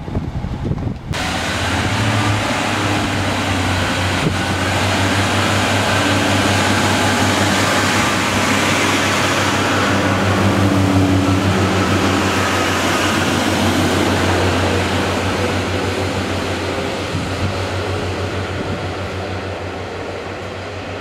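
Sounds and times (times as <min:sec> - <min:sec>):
train diesel engines humming: 0:00.3 - 0:21.0.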